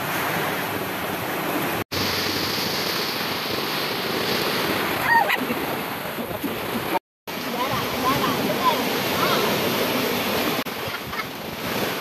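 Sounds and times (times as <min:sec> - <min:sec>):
sea waves washing on shore: 0:00.0 - 0:12.0.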